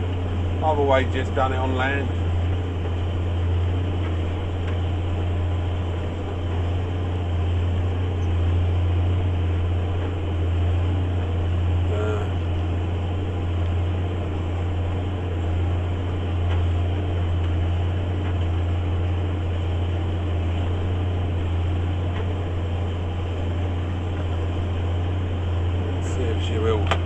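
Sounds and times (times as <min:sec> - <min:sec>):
tractor engine droning: 0:00.0 - 0:27.0.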